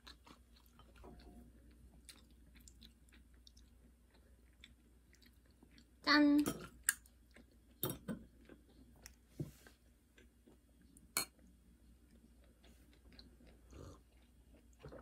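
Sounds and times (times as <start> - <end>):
quiet chewing: 0.0 - 6.0, 6.6 - 15.0.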